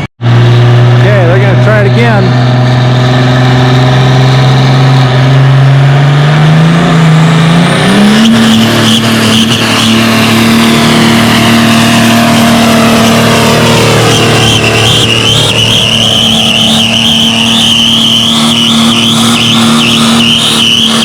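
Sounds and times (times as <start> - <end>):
engine at full throttle: 0.0 - 21.0.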